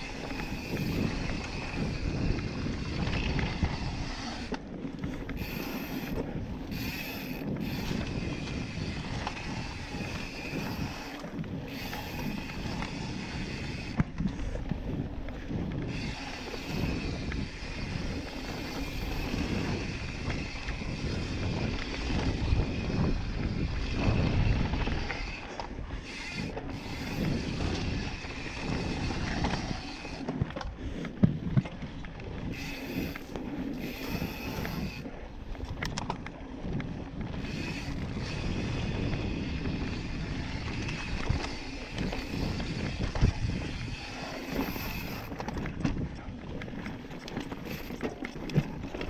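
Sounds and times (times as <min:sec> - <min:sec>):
bike rattling: 0:00.0 - 0:49.0
wind on microphone: 0:00.0 - 0:49.0.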